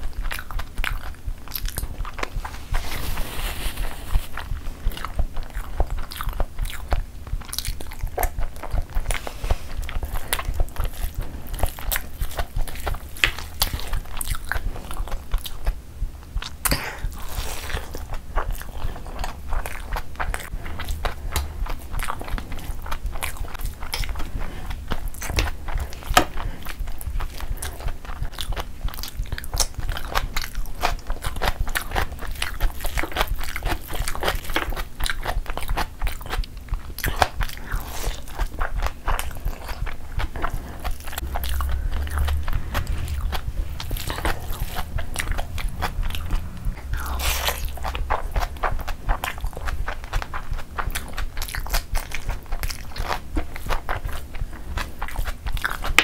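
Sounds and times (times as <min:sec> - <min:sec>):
chewing mouth clicks and smacks: 0:00.0 - 0:02.6, 0:04.3 - 0:56.0.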